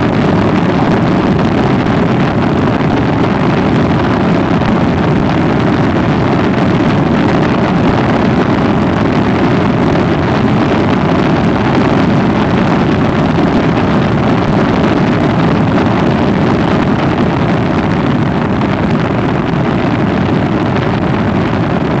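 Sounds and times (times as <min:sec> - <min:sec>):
wind rush on microphone: 0:00.0 - 0:22.0.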